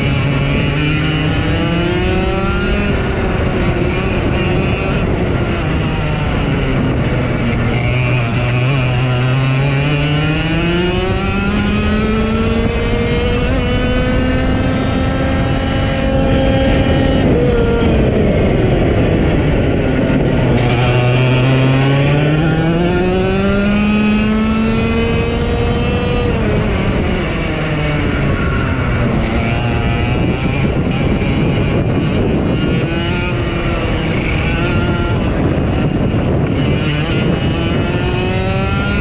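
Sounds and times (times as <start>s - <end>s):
race car engines passing: 0.0s - 39.0s.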